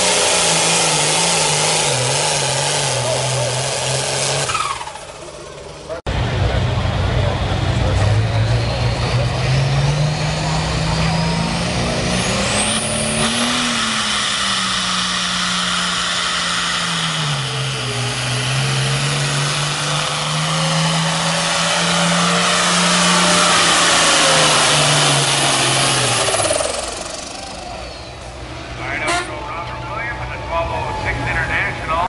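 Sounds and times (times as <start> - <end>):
diesel tractor engine straining: 0.0 - 32.0.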